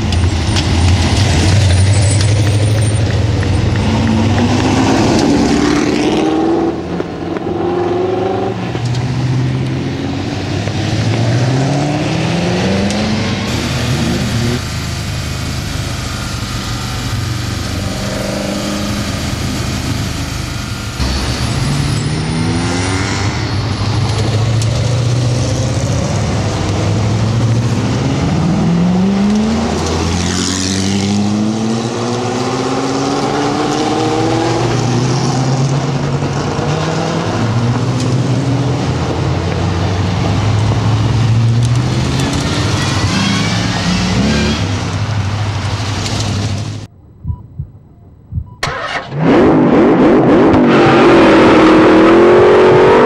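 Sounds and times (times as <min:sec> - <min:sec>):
race cars passing close by: 0:00.0 - 0:14.6, 0:16.1 - 0:46.9
race car engines accelerating: 0:00.0 - 0:46.9, 0:48.6 - 0:53.0.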